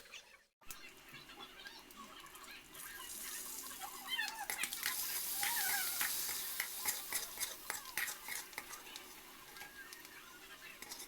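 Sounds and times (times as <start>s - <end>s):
eggs sizzling in hot oil: 0.7s - 11.0s.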